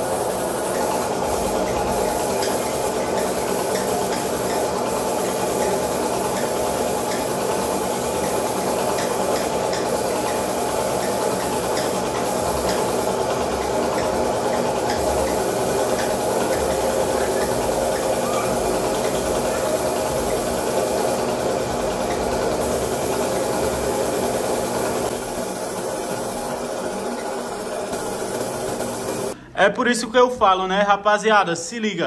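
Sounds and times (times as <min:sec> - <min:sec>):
paint spray gun hissing: 0:00.0 - 0:29.4.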